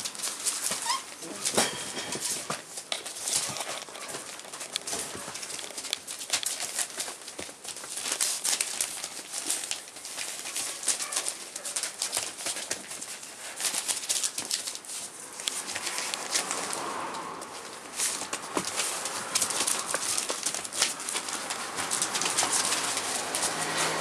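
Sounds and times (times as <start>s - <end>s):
newspaper rustling and crinkling: 0.0s - 24.0s.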